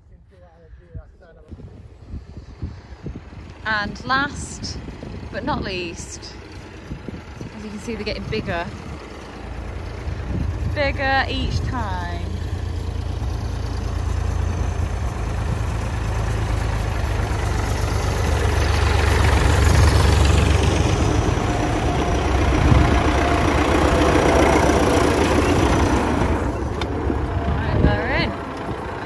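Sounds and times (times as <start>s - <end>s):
tractor engines passing: 1.3s - 29.0s.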